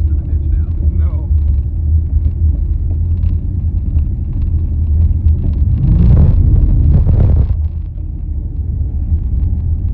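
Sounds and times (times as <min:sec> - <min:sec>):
engine low rumble while driving: 0:00.0 - 0:09.9.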